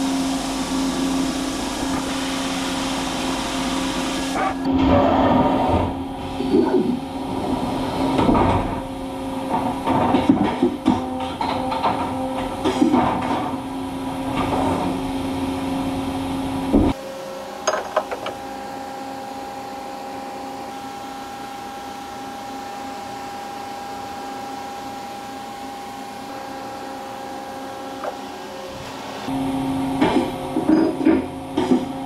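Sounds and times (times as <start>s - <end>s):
machining centre hum: 0.0s - 32.0s.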